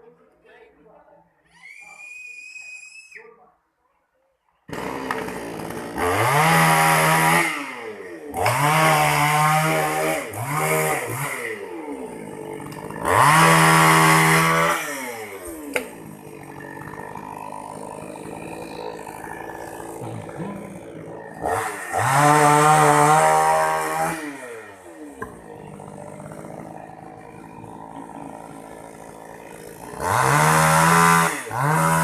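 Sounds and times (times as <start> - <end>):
chainsaw engine revving and idling: 4.7 - 32.0.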